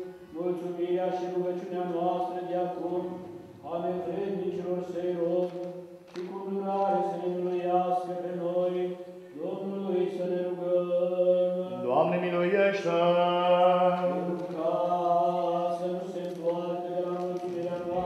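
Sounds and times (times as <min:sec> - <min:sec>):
liturgical chant: 0:00.0 - 0:18.0.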